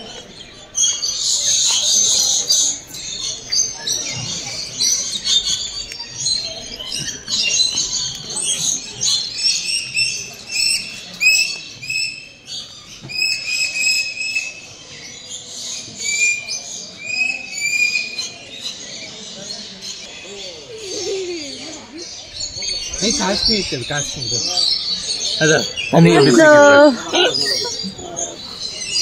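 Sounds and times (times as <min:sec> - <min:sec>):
many small birds chirping: 0:00.0 - 0:29.0.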